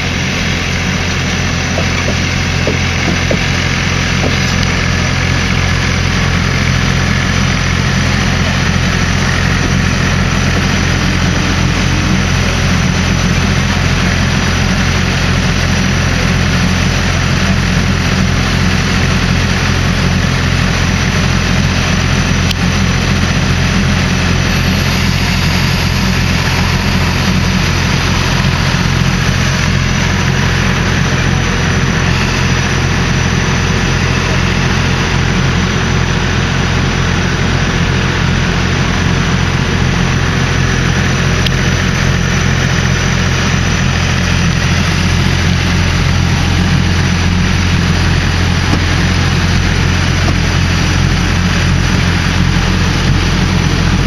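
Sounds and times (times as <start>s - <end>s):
diesel locomotive engine idling: 0.0s - 54.0s.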